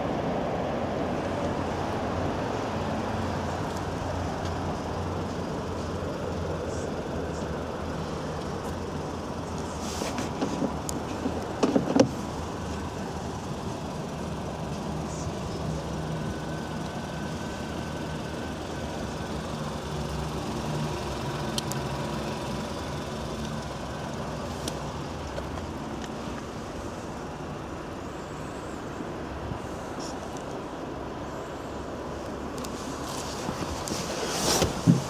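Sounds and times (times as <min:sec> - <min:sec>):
low vehicle rumble: 0:00.0 - 0:35.0.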